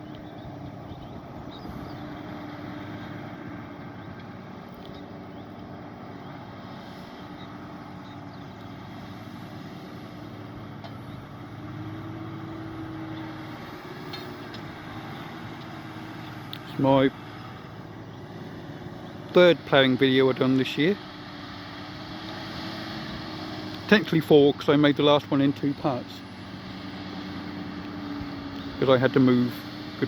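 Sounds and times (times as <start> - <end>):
tractor engine under load: 0.0 - 30.0.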